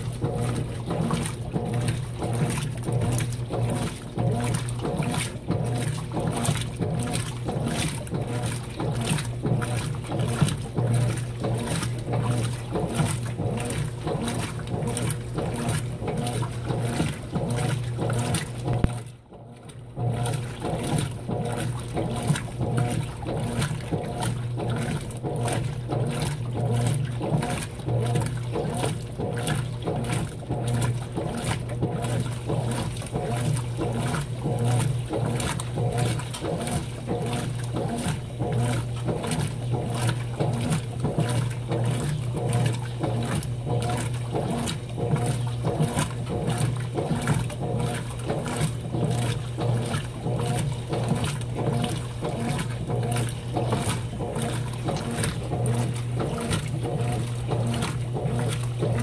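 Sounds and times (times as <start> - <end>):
washing machine motor hum: 0.0 - 59.0
water sloshing and swishing: 0.0 - 59.0.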